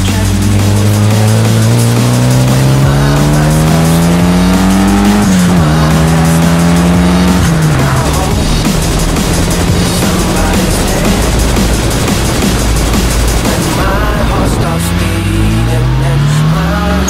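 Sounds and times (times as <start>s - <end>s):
car engine revving: 0.0s - 17.0s
music: 0.0s - 17.0s.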